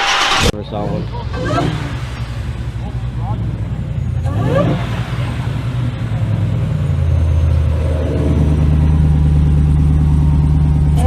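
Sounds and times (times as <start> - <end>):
engine rumbling through open exhaust: 0.0 - 11.0.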